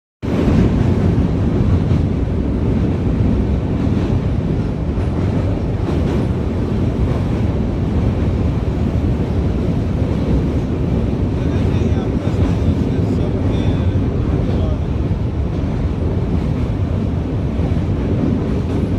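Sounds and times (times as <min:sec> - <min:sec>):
moving train rumble: 0:00.2 - 0:18.9
wind buffeting microphone: 0:00.2 - 0:18.9.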